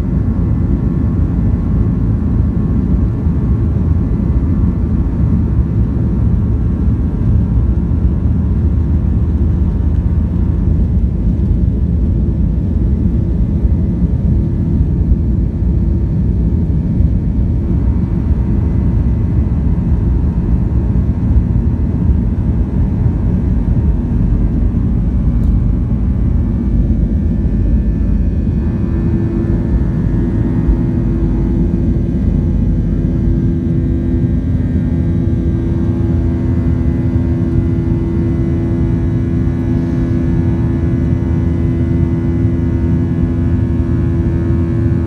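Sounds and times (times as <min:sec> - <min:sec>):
jet engines at takeoff thrust: 0:00.0 - 0:45.0
wheels rumbling on runway: 0:00.0 - 0:45.0.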